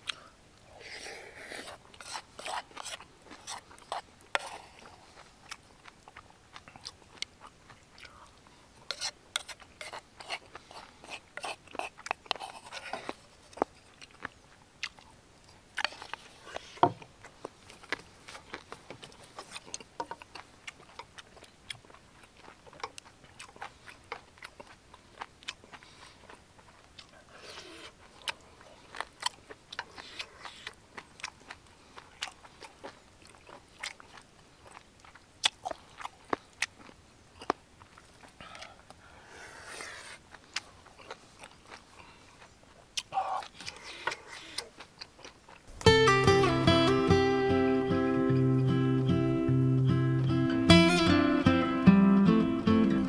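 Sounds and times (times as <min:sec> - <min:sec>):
close chewing with wet mouth clicks: 0:00.0 - 0:45.8.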